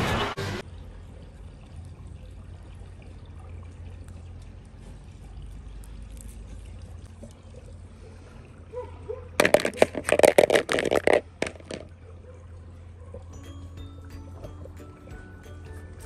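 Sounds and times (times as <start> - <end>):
water splashing: 0.0 - 13.2
faint water trickle: 0.6 - 9.4, 11.2 - 16.0.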